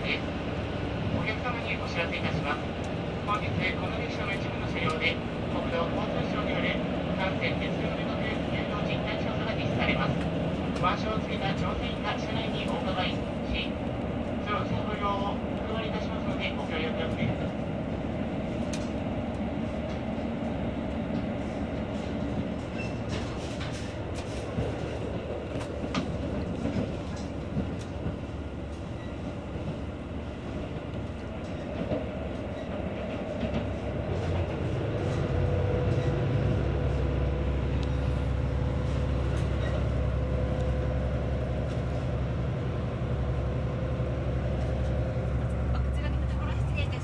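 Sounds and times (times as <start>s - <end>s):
train interior running noise: 0.0s - 47.0s.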